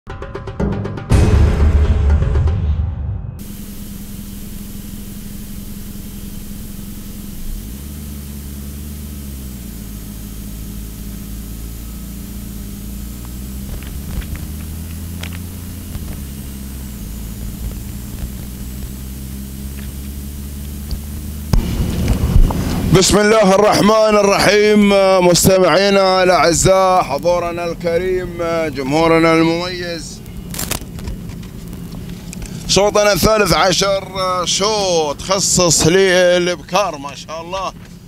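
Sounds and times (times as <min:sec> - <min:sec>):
car engine driving: 0:03.4 - 0:38.0
faint high whine: 0:03.4 - 0:38.0.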